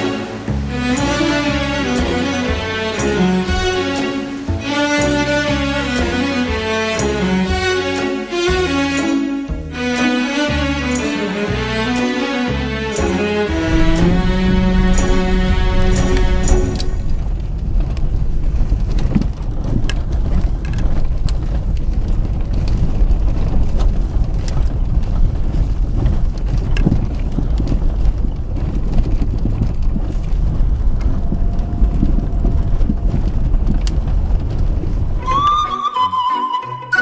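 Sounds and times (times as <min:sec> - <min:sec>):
knocks and rattles: 0:00.0 - 0:35.4
vehicle rumbling on dirt track: 0:00.0 - 0:35.5.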